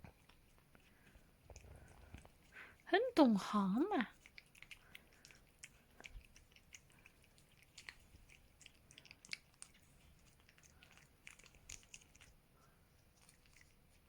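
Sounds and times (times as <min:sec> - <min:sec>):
cat chewing wet clicks: 0:00.0 - 0:14.0.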